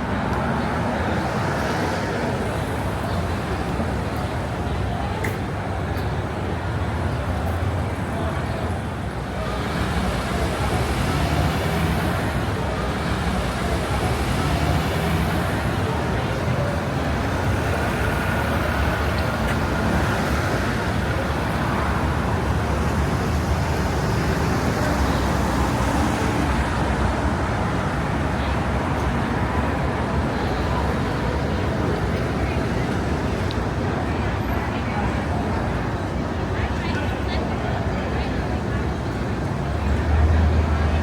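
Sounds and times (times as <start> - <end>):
passers-by talking: 0.0 - 41.0
street traffic rumble: 0.0 - 41.0.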